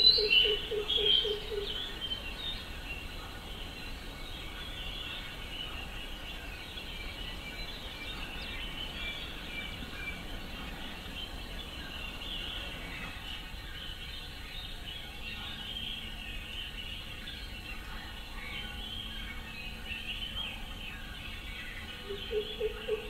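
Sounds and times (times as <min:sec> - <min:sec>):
low rumble and hiss: 0:00.0 - 0:23.0
small birds chirping: 0:00.0 - 0:23.0.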